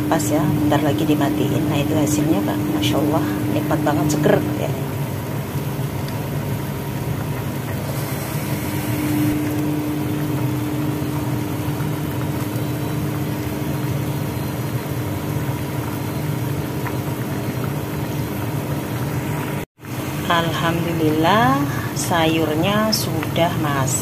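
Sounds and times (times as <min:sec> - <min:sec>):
faint steady hum: 0:00.0 - 0:24.0
pot of soup boiling: 0:00.0 - 0:24.0.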